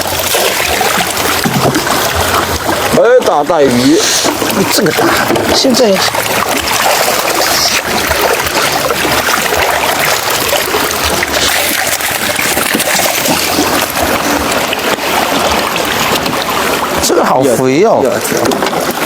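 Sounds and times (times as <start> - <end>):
seawater rushing and splashing: 0.0 - 19.0.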